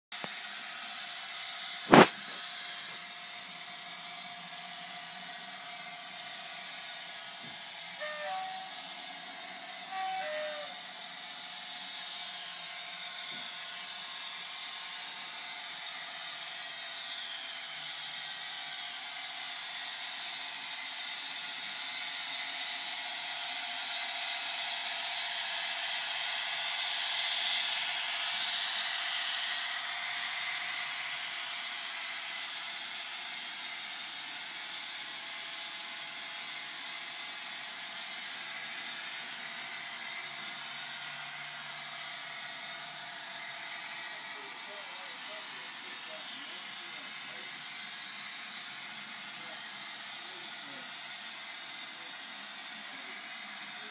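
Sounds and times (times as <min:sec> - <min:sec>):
model train engine sound whine: 0:00.2 - 0:53.9.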